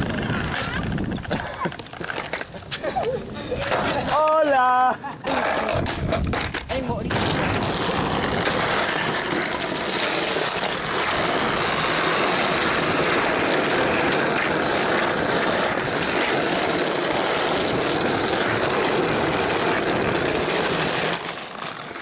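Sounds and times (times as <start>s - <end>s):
skateboard wheels rolling on bricks: 0.0s - 22.0s.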